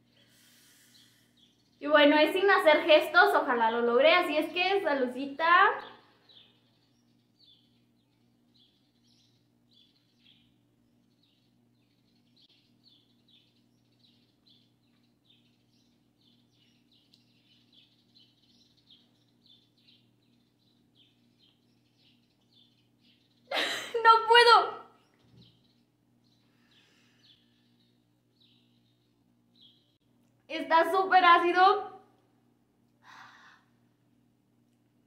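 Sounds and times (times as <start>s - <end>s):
faint bird chirping: 0.0s - 32.2s
low steady hum: 0.0s - 35.0s.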